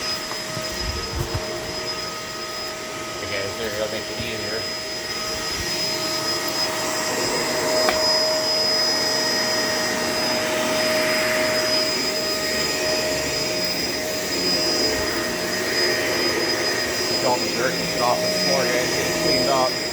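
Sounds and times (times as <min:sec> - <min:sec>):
vacuum cleaner whine: 0:00.0 - 0:19.9.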